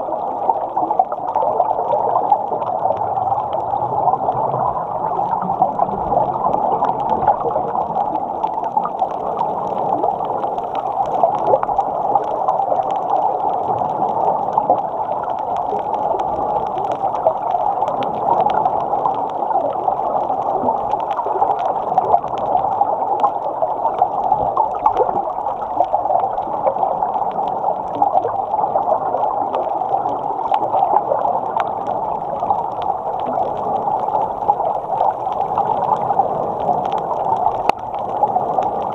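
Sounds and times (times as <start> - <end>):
underwater water and bubbles: 0.0 - 38.9.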